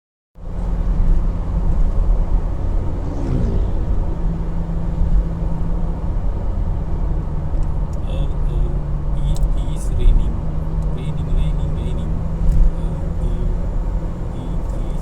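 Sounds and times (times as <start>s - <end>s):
constant hum: 0.4s - 15.0s
engine and road rumble: 0.4s - 15.0s.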